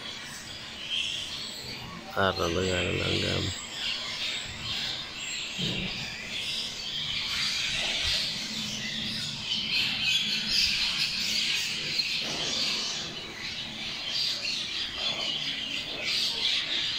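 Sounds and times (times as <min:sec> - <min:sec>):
flock of birds chattering: 0:00.0 - 0:16.9.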